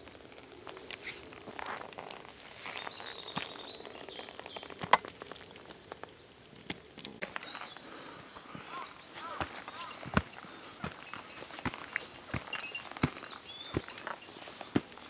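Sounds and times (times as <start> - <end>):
birds whistling calls: 2.6 - 15.0.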